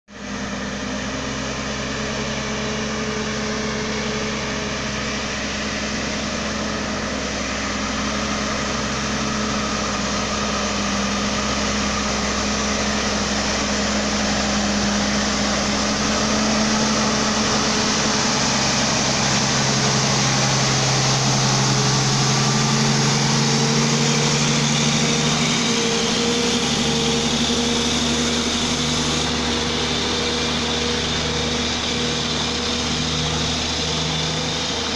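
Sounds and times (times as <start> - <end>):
heavy diesel truck engines: 0.1 - 34.9.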